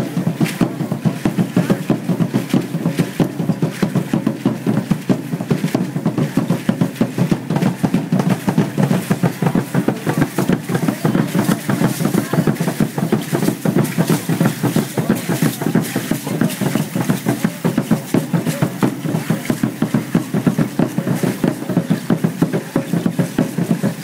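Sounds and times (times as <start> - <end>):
ankle rattles shaking: 0.0 - 24.0
drum beating fast rhythm: 0.0 - 24.0
feet stamping: 0.0 - 24.0.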